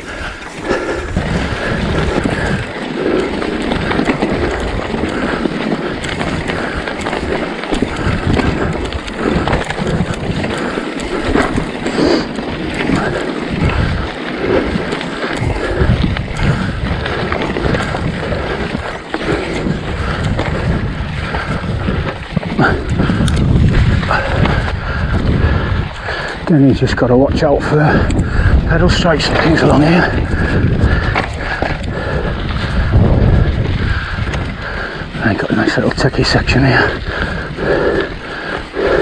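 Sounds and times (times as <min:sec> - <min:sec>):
bike rattling and knocking: 0:00.0 - 0:39.0
bike tyres rumbling: 0:00.0 - 0:39.0
wind buffeting microphone: 0:00.0 - 0:39.0.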